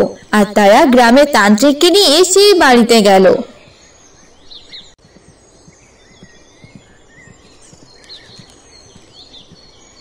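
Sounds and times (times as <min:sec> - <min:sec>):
birds chirping: 0:00.0 - 0:10.0
steady low background noise: 0:00.0 - 0:10.0.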